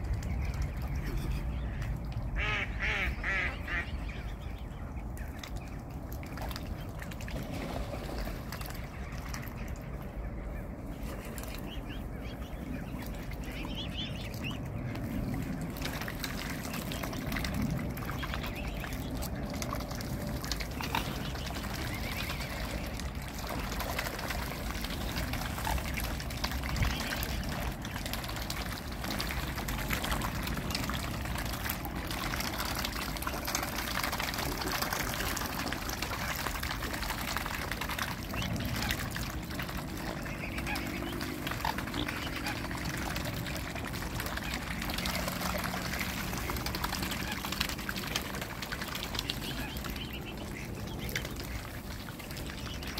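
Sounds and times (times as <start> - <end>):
water splashing and dribbling: 0.0 - 52.9.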